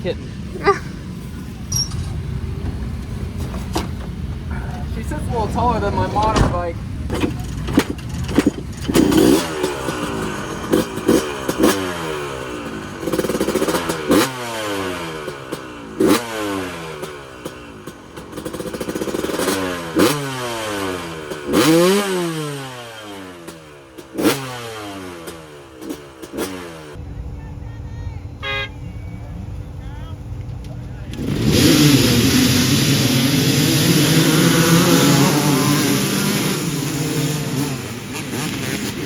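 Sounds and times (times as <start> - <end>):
dirt bike engine revving: 5.0 - 27.0, 28.4 - 39.0.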